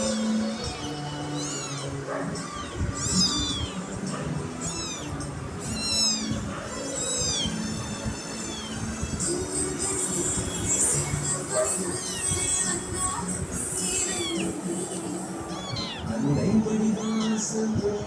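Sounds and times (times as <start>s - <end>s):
kitten meowing: 0.0s - 9.5s, 10.6s - 13.1s, 13.8s - 17.8s.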